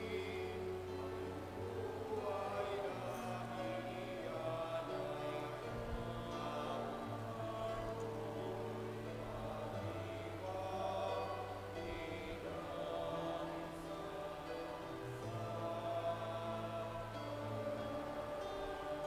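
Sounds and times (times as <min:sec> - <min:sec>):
low held accompaniment notes: 0:00.0 - 0:19.0
voices singing a hymn: 0:00.0 - 0:19.0.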